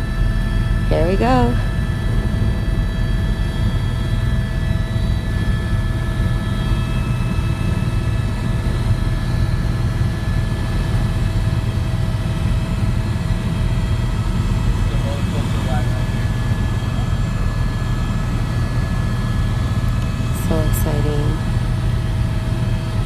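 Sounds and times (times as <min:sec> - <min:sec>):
helicopter flying: 0:00.0 - 0:23.0.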